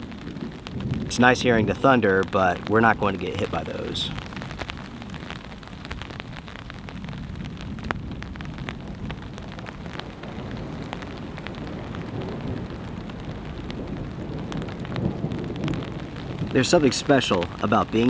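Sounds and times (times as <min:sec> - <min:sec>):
distant thunder rumble: 0:00.0 - 0:18.0
rain on a tarp: 0:00.0 - 0:18.0.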